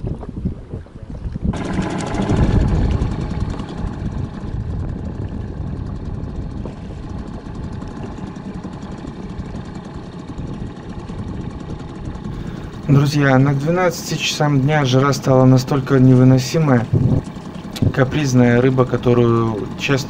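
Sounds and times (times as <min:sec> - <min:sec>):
outboard motor starting and running: 0:00.2 - 0:20.0.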